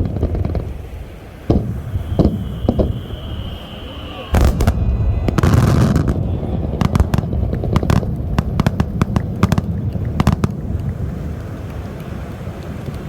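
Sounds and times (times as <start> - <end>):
low rumble: 0.0 - 12.0
fireworks crackling: 0.0 - 13.0.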